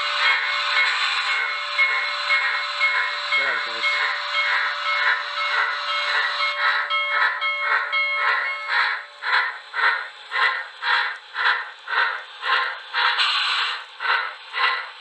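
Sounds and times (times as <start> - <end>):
model train steam chuffs from speaker: 0.0 - 15.0.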